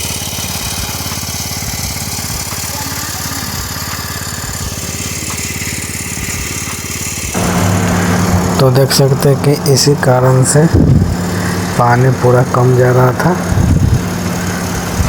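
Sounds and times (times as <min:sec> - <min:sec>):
pump engine running: 0:00.0 - 0:15.0.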